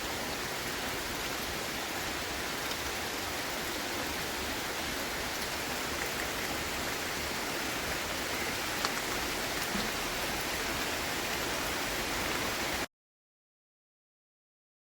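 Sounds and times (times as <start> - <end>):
heavy rain: 0.0 - 12.9.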